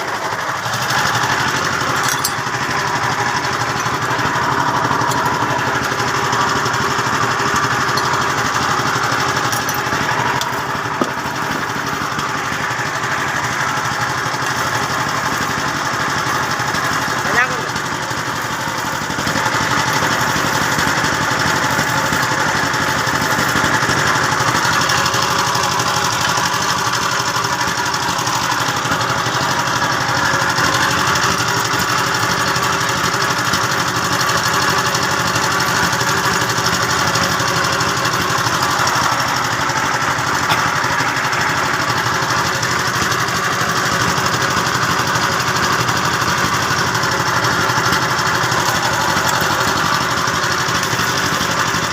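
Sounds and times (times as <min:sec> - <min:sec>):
machine running with rapid flutter: 0:00.0 - 0:51.9.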